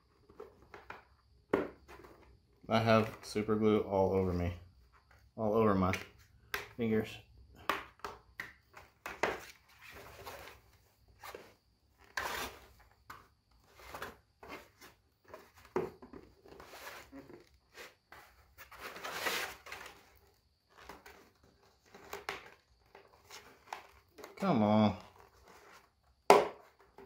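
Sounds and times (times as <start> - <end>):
plastic parts knocking and scraping: 0.1 - 3.4, 7.5 - 24.4, 25.0 - 27.0.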